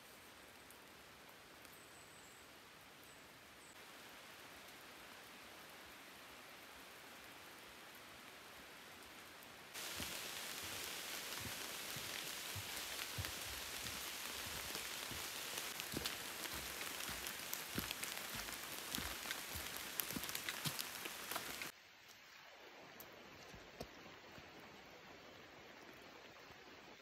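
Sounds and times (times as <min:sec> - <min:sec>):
faint steady hiss: 0:00.0 - 0:27.0
light rain pattering on leaves: 0:00.0 - 0:27.0.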